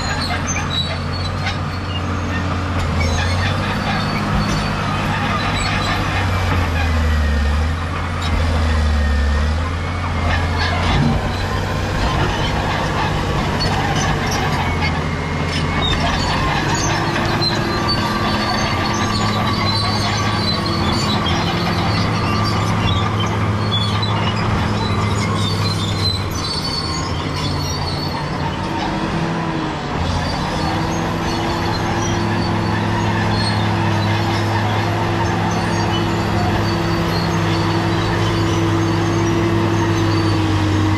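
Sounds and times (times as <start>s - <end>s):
bulldozer diesel engine under load: 0.0s - 40.9s
steel tracks squealing and clanking: 0.0s - 40.9s.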